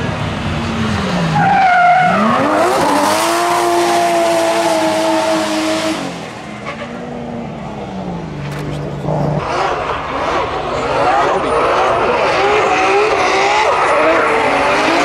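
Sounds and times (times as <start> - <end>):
tyres skidding and squealing: 0.0 - 15.0
car engine revving hard: 1.4 - 7.4, 8.5 - 15.0.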